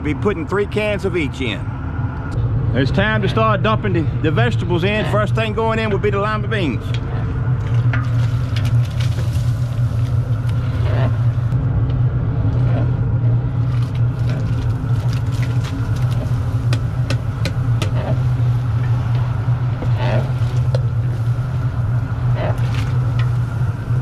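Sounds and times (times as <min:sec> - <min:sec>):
gas burner rumbling: 0:00.0 - 0:24.0.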